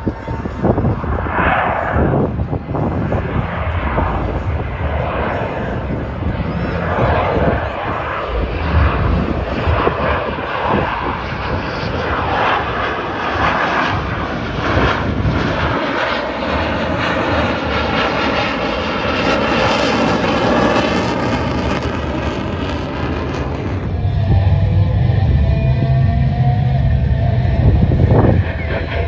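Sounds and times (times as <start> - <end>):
airplane engine droning: 0.0 - 29.0.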